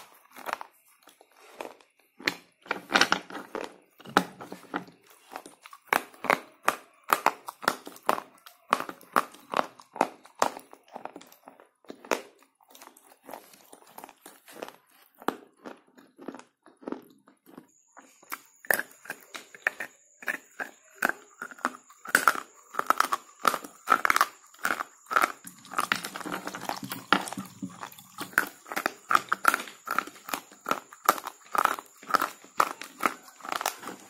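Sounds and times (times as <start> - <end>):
pencil crunching between teeth: 0.0 - 34.0.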